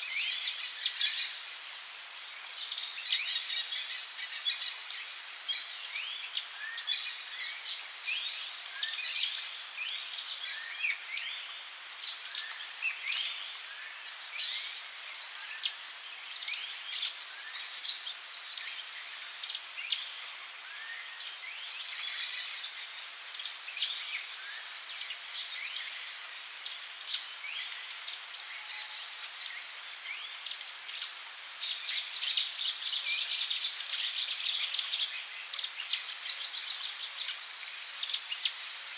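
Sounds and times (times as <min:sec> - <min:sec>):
high-pitched insect drone: 0:00.1 - 0:38.9.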